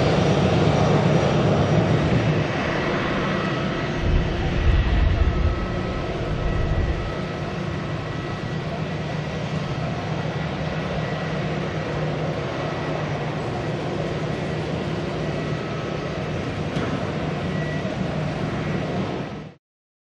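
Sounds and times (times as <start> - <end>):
jet engines idling: 0.0 - 19.5.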